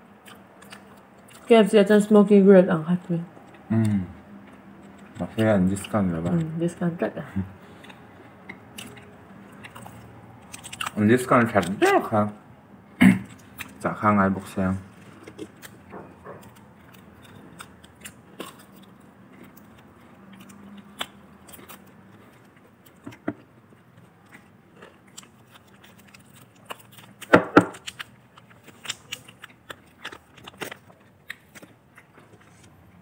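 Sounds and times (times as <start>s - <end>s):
crunchy fried chicken chewing: 0.1s - 1.5s, 3.4s - 6.6s, 7.6s - 11.9s, 13.2s - 33.0s.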